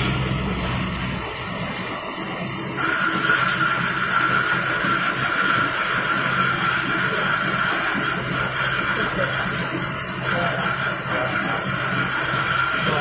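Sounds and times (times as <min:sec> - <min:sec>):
high-pitched cutting whine: 0:00.0 - 0:13.0.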